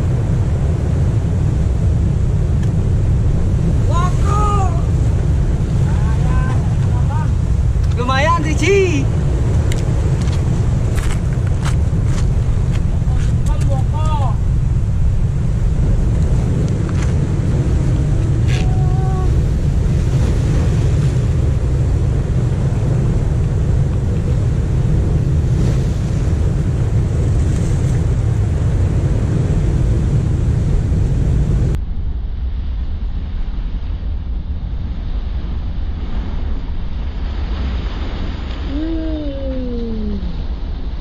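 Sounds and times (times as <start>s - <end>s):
surf breaking on rocks: 0.0s - 31.8s, 34.0s - 41.0s
wind buffeting microphone: 0.0s - 41.0s.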